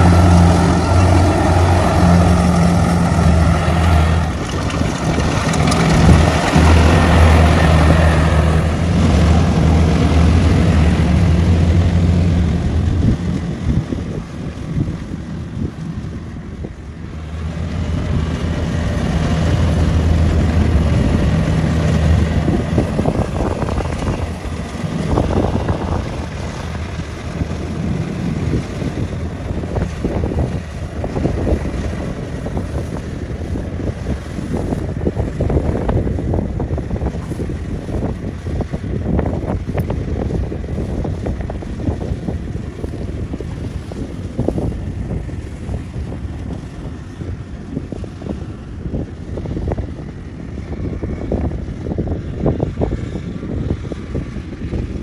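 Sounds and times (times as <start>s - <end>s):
diesel engine running: 0.0s - 55.0s
wind buffeting microphone: 0.0s - 55.0s.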